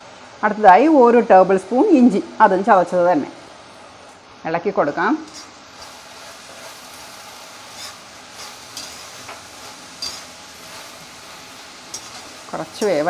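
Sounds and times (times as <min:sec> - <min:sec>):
aromatics sizzling in oil: 0:01.3 - 0:13.0.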